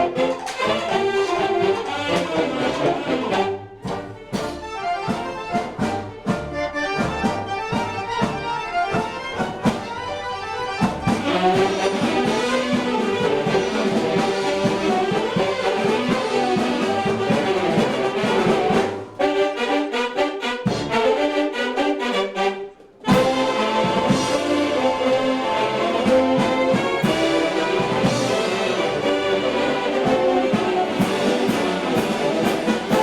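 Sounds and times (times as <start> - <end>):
reeds and accordions: 0.0 - 33.0
string band music: 0.0 - 33.0.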